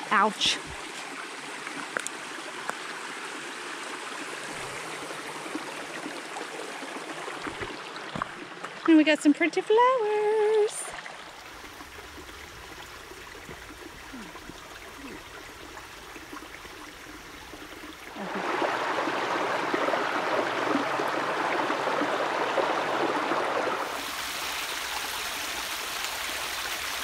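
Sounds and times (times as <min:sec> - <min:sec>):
creek water splashing over rocks: 0:00.0 - 0:27.0.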